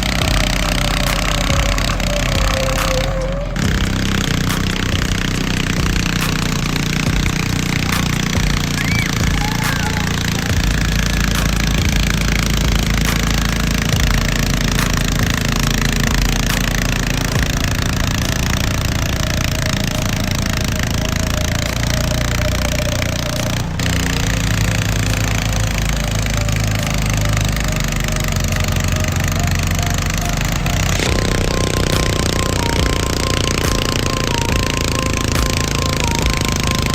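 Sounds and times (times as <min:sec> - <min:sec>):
tractor engine at high revs: 0:00.0 - 0:36.9.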